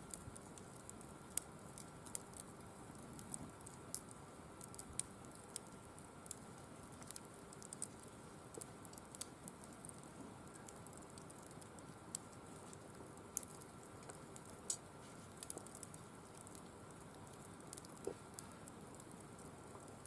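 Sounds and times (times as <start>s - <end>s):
firewood crackling and popping: 0.0s - 20.0s
low steady fire hiss: 0.0s - 20.0s.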